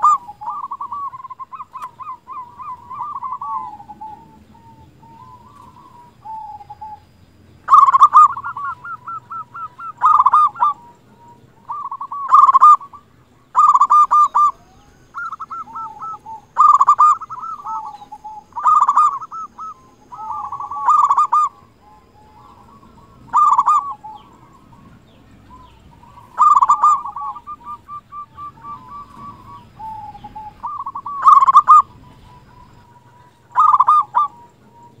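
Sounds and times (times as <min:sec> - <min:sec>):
dove cooing: 0:00.0 - 0:35.0.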